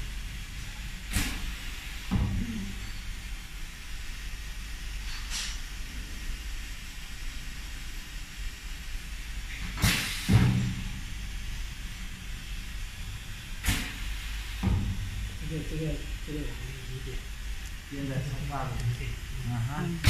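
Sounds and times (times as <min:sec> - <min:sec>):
air hissing: 0:00.0 - 0:20.0
low machine hum: 0:00.0 - 0:20.0.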